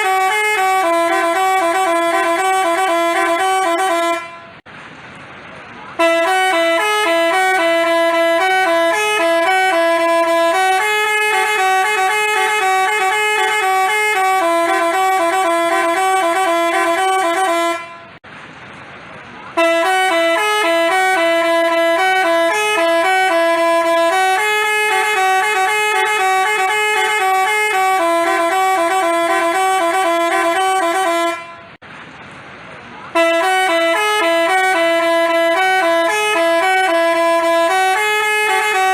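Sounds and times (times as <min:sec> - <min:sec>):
bus horn playing a tune: 0:00.0 - 0:04.6, 0:05.9 - 0:18.2, 0:19.5 - 0:31.8, 0:33.1 - 0:38.9.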